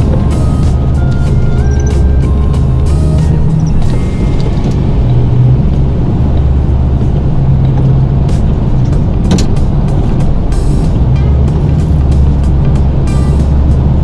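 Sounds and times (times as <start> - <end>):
background music: 0.0 - 14.0
truck engine running: 0.0 - 14.0.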